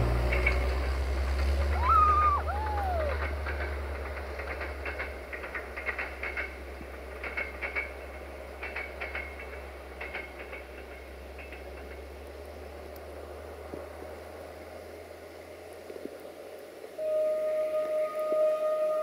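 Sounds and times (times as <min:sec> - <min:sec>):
train rumbling: 0:00.0 - 0:19.0
wheels clicking and squeaking: 0:00.0 - 0:19.0.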